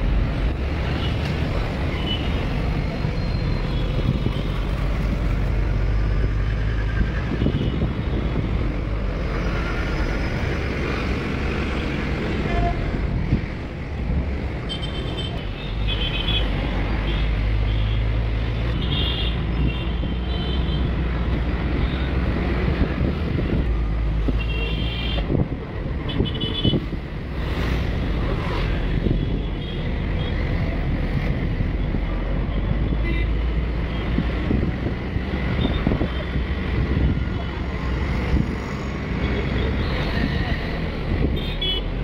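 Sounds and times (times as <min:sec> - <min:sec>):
engine and tyre rumble: 0:00.0 - 0:42.0
wind: 0:00.0 - 0:42.0.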